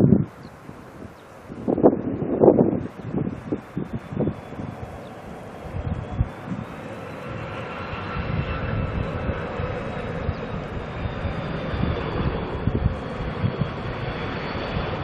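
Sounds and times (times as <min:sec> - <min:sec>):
airliner engines rushing and whining: 0:00.0 - 0:15.0
wind buffeting microphone: 0:00.0 - 0:15.0.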